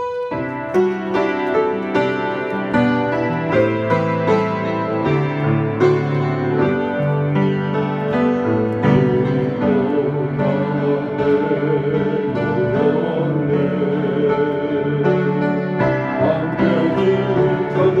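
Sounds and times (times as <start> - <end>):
piano playing slow hymn chords: 0.0 - 18.0.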